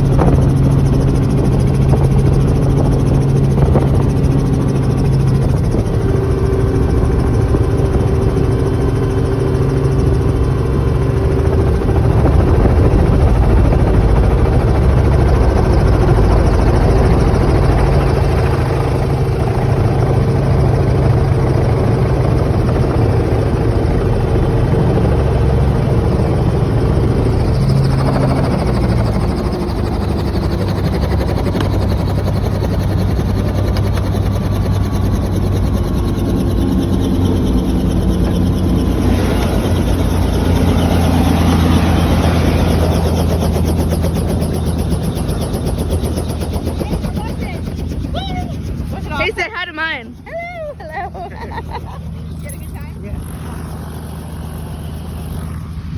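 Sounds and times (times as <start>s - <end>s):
helicopter engine and rotor drone: 0.0s - 55.9s.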